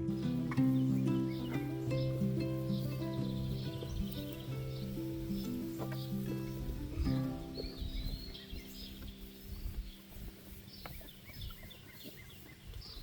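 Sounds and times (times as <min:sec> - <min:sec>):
birds chirping: 0:00.0 - 0:13.0
low rumbling microphone noise: 0:00.0 - 0:13.0.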